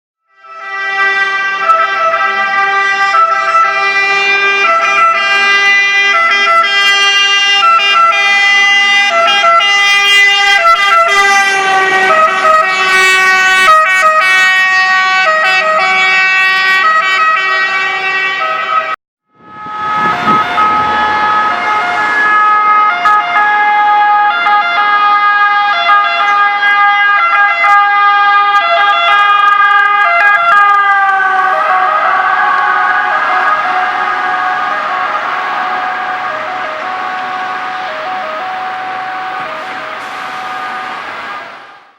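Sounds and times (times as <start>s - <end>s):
two-tone emergency sirens: 0.2s - 41.9s.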